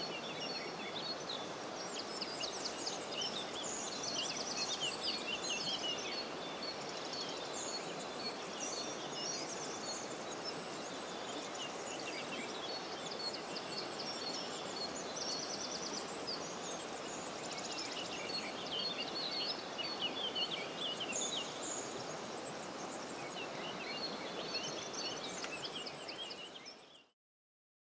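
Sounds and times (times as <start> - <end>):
flowing water rushing: 0.0 - 27.0
small birds chirping: 0.0 - 27.1.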